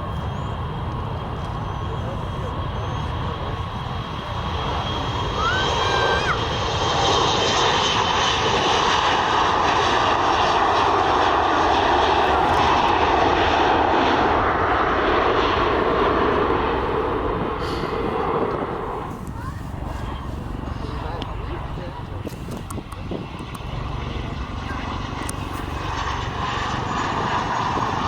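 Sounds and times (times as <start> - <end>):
airliner engines roaring: 0.0 - 28.0.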